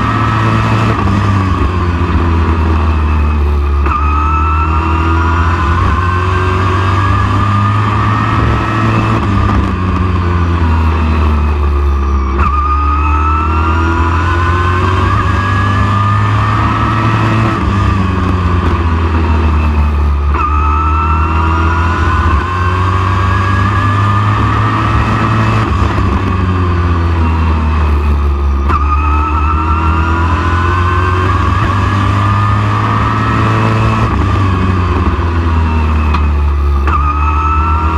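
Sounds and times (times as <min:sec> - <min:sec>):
race truck engine: 0:00.0 - 0:37.9.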